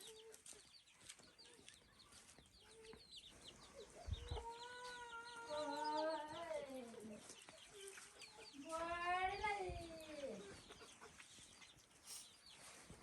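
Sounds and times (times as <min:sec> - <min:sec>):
chickens peeping and clucking: 0:00.0 - 0:13.0.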